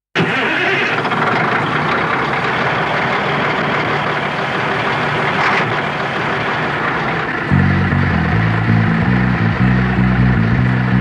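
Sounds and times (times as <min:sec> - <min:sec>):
heavy truck engine running: 0:00.2 - 0:11.0.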